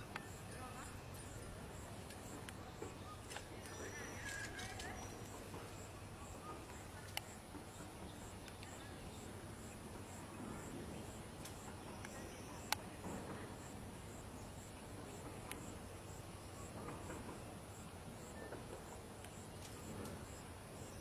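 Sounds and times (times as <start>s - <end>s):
cricket chirping: 0.0s - 21.0s
low outdoor hiss: 0.0s - 21.0s.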